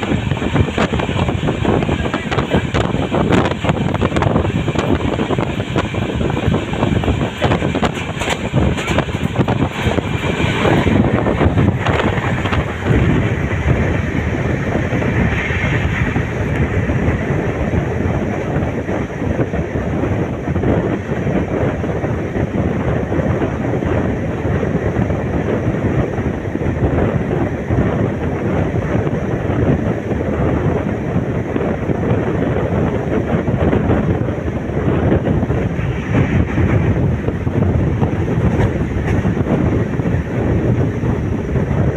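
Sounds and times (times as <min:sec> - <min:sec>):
train wheels rumbling: 0:00.0 - 0:41.9
wind buffeting microphone: 0:00.0 - 0:41.9.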